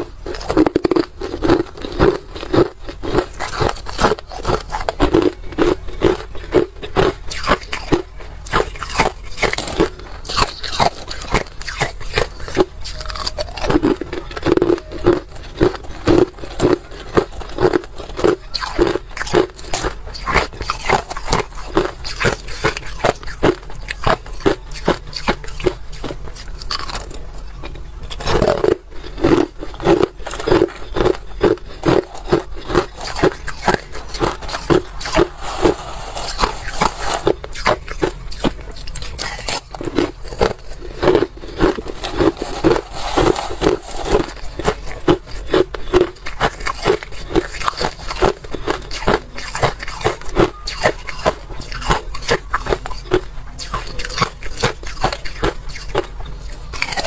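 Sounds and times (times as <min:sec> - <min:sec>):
ice being chewed and crunched: 0:00.0 - 0:57.0.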